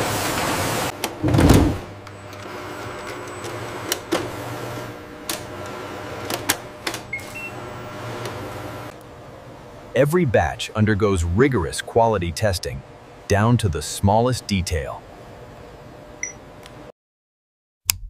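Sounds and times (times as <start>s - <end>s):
steady machine hum: 0.0s - 16.9s.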